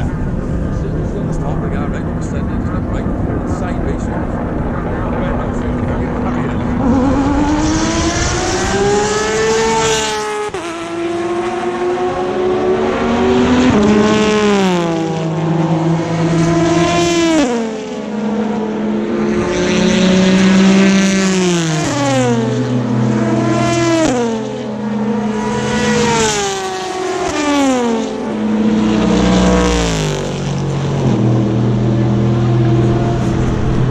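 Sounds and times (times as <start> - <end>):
race cars passing at speed: 0.0 - 33.9.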